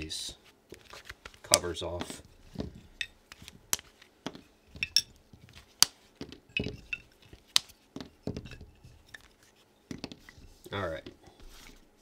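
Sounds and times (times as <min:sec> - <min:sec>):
handling rustles: 0:00.3 - 0:12.0.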